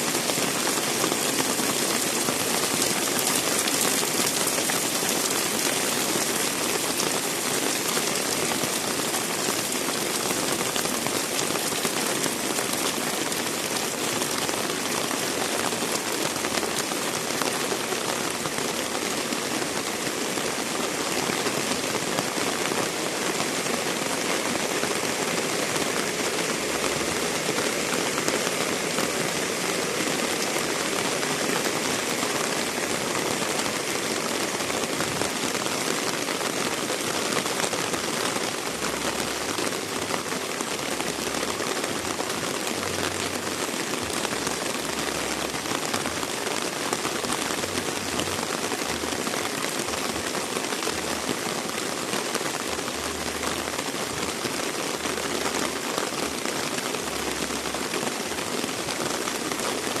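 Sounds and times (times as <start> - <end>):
heavy rain hissing: 0.0 - 60.0.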